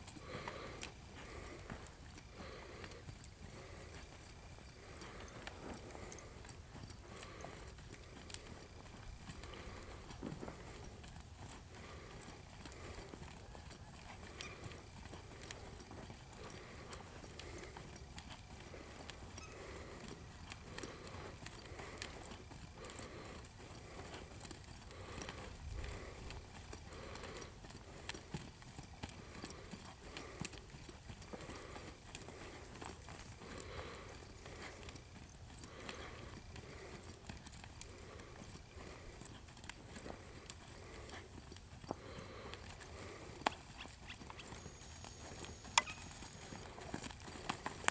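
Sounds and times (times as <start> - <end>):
muffled hooves on soft dirt: 0.0 - 47.9.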